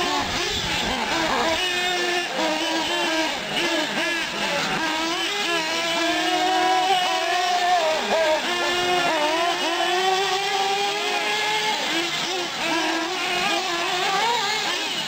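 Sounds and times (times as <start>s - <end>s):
model car engines revving: 0.0s - 15.0s.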